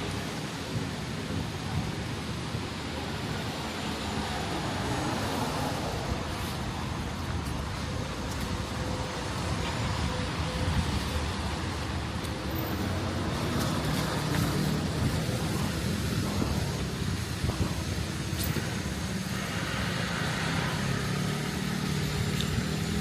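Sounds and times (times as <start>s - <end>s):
tyres hissing on wet road: 0.0s - 23.0s.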